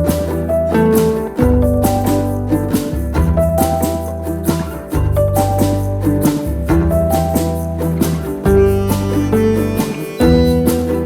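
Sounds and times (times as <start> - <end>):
upbeat instrumental music: 0.0 - 11.0.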